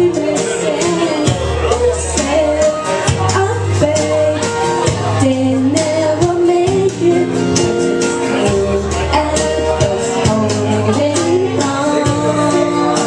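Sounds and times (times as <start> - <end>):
amplified musical accompaniment: 0.0 - 13.0
woman singing into a microphone: 0.0 - 13.0.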